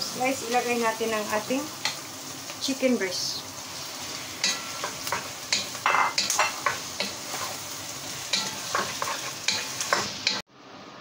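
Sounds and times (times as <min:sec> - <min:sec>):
chicken and onions sizzling: 0:00.0 - 0:11.0.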